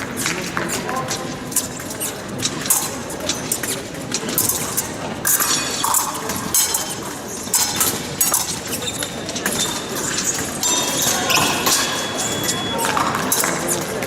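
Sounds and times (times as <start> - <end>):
fencing blades clinking: 0.1 - 14.0.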